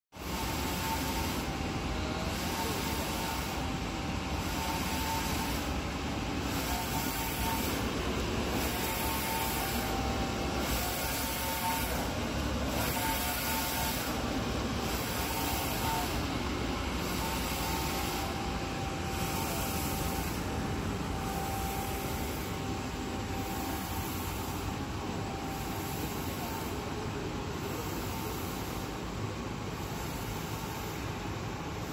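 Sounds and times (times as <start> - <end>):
faint printer whine: 0.2 - 31.9
printer carriage mechanical hum: 0.2 - 31.9.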